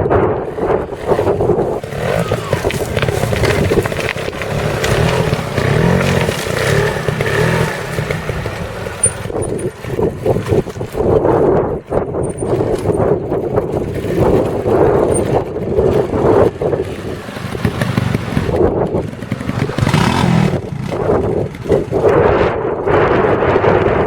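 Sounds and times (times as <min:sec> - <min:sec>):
motorcycle engine revving: 0:00.2 - 0:23.1.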